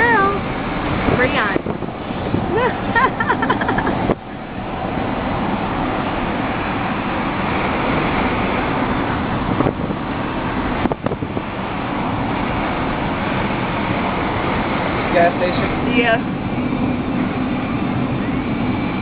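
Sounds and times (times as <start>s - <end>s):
wind and road noise in car: 0.0s - 19.0s.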